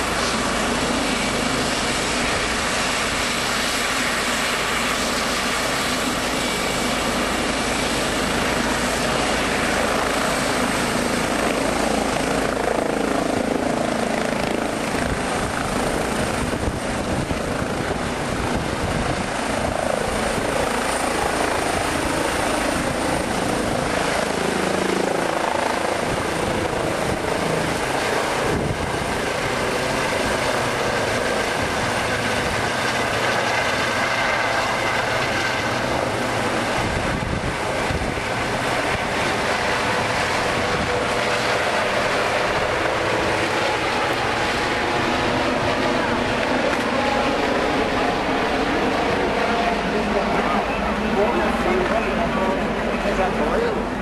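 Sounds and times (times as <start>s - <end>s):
helicopter rotor and turbine whine: 0.0s - 54.0s.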